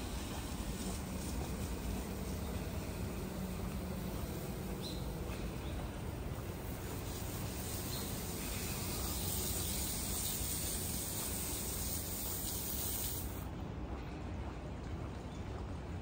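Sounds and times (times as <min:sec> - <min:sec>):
running water rushing: 0:00.0 - 0:16.0.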